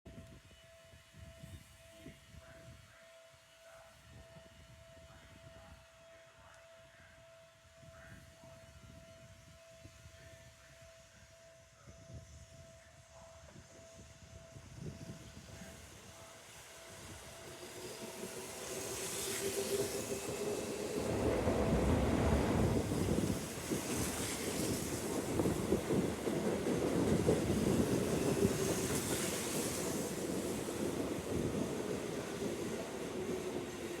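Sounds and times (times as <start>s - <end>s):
electric train passing: 6.0s - 34.0s.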